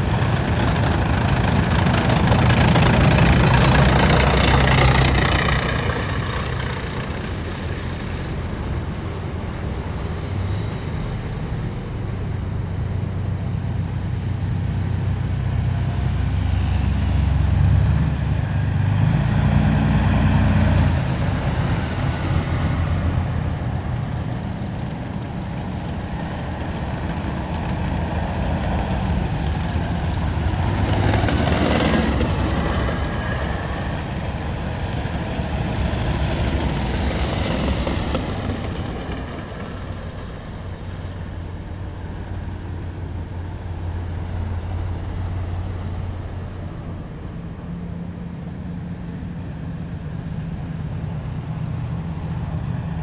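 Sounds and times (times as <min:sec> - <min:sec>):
heavy vehicles engine drone: 0:00.0 - 0:53.0.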